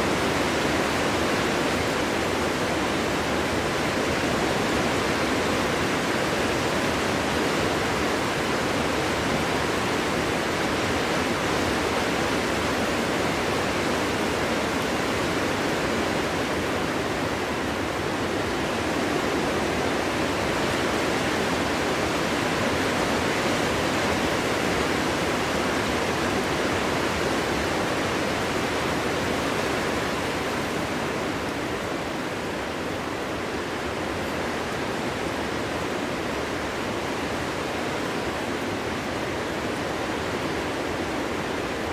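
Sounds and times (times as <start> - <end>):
wind rushing through forest: 0.0 - 41.9.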